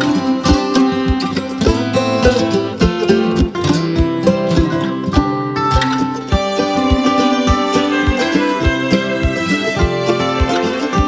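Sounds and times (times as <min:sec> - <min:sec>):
plucked guitar over a beat: 0:00.0 - 0:11.0.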